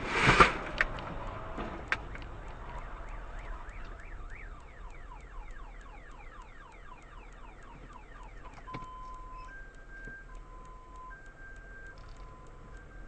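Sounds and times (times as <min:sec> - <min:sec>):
car alarm sweeping pitch: 0:02.2 - 0:13.0.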